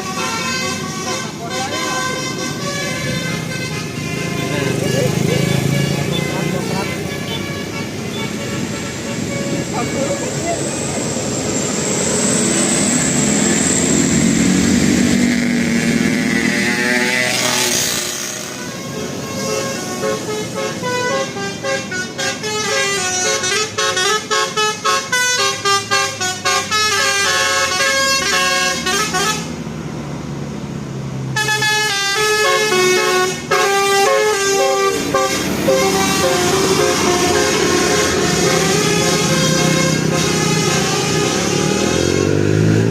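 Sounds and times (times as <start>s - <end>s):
musical bus horn tune: 0.0s - 11.1s, 14.7s - 29.6s, 31.4s - 42.9s
engine noise: 0.0s - 42.9s
traffic noise: 0.0s - 42.9s.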